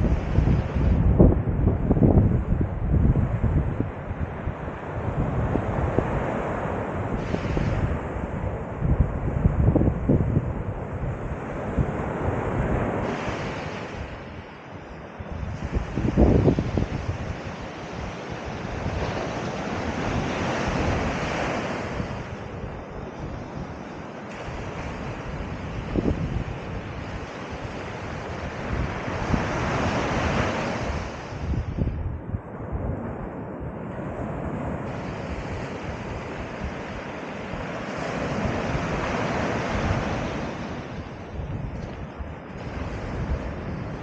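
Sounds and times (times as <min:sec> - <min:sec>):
sea waves breaking on shore: 0:00.0 - 0:44.0
wind buffeting microphone: 0:00.0 - 0:44.0.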